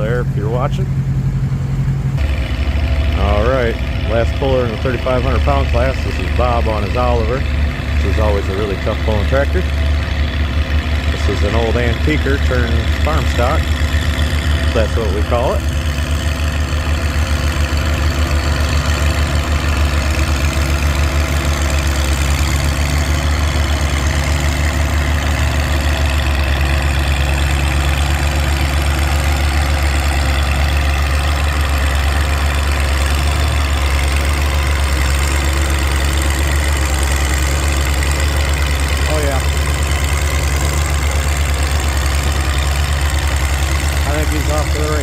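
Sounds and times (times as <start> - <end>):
tractor engine idling: 0.0 - 45.0.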